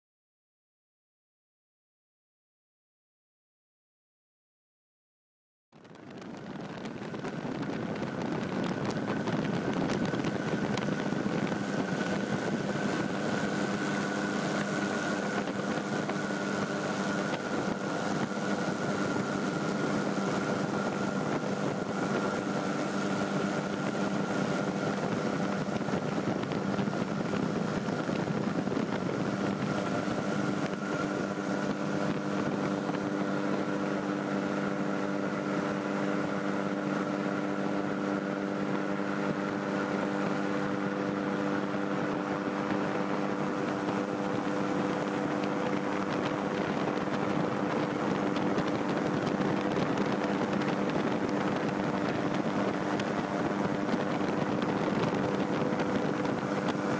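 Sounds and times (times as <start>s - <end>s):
light aircraft engine droning: 6.5s - 56.9s.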